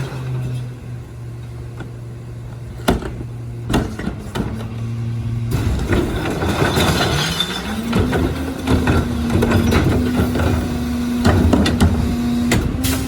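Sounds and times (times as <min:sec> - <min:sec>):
garbage truck engine running: 0:00.0 - 0:13.0
rough mechanical grinding: 0:00.0 - 0:13.0.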